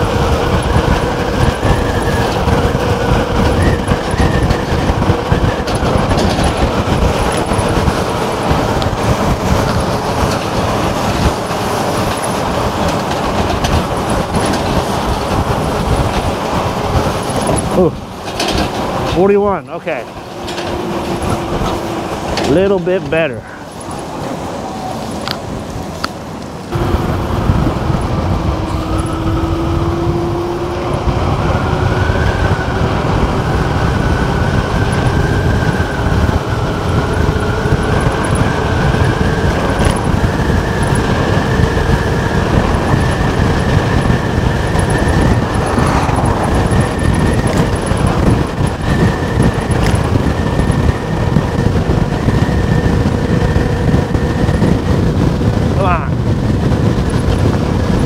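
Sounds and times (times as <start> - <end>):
wind and road rumble: 0.0 - 58.0.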